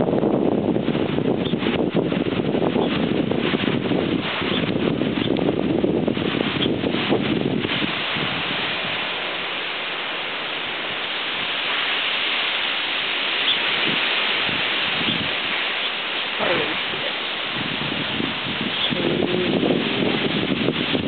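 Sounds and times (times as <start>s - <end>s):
rain: 0.0s - 21.0s
storm wind: 0.0s - 21.0s.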